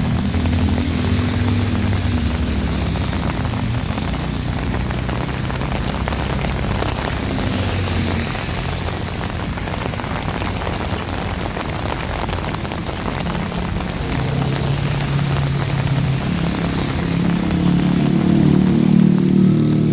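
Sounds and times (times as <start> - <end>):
heavy rain: 0.0 - 19.9
low engine hum: 0.0 - 19.9.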